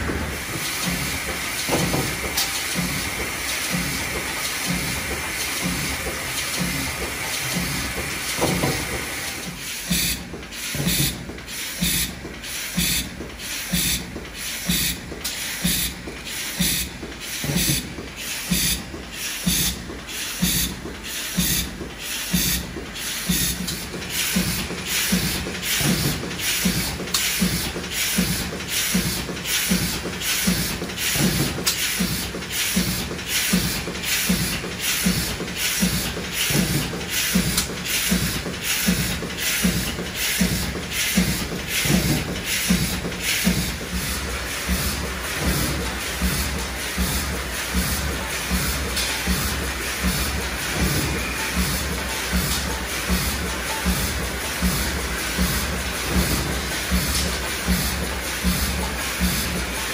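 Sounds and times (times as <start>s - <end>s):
machine clacking: 0.0s - 59.9s.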